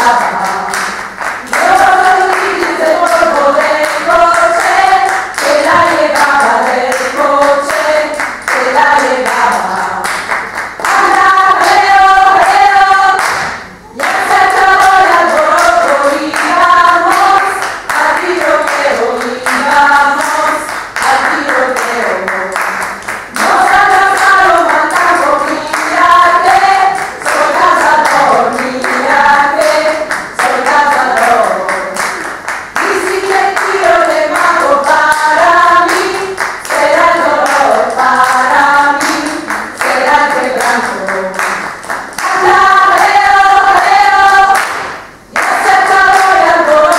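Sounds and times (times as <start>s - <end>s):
group of voices singing: 0.0s - 46.9s
hand clapping: 0.0s - 46.9s.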